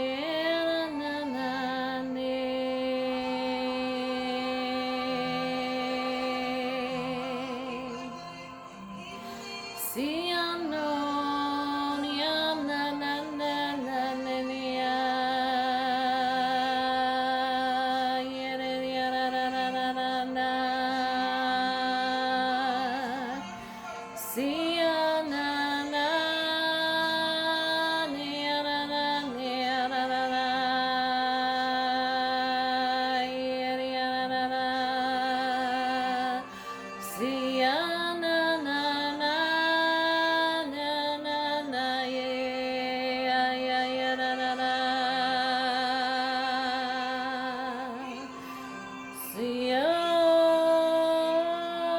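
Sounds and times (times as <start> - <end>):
woman singing with vibrato: 0.0 - 51.9.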